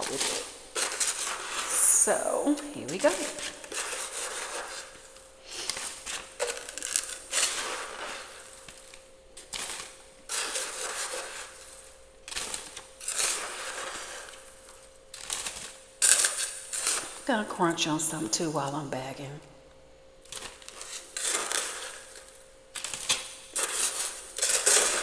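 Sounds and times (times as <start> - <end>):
ice being scraped: 0.0 - 8.8, 9.5 - 14.6, 15.2 - 17.6, 20.4 - 25.0
faint steady hum: 0.0 - 25.0.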